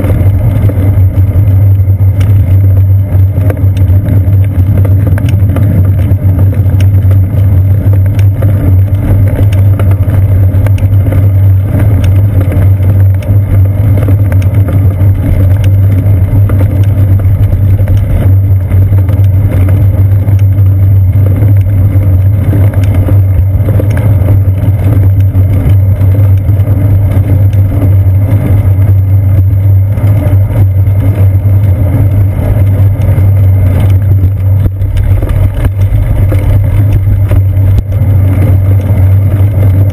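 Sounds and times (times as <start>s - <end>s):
bicycle tyres rolling on pavement: 0.0s - 39.9s
small rattles and clicks: 0.0s - 39.9s.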